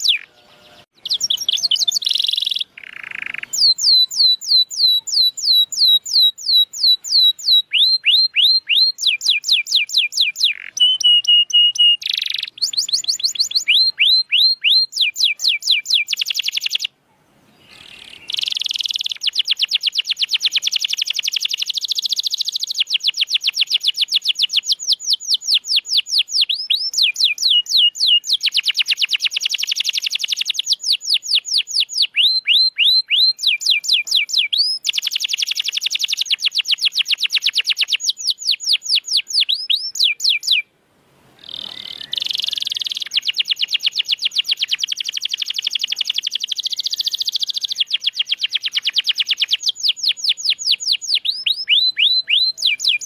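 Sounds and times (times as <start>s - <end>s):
canary singing: 0.0s - 40.7s, 41.4s - 53.0s.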